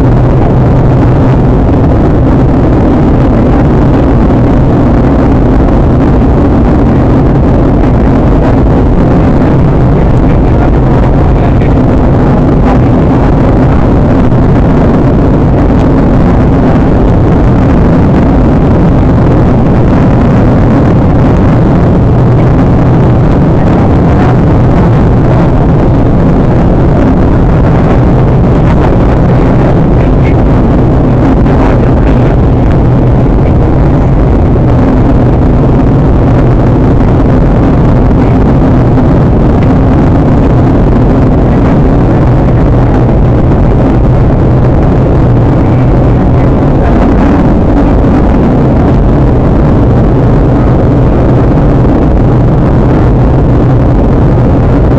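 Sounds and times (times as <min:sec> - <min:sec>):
airliner cabin engine noise: 0:00.0 - 0:54.9.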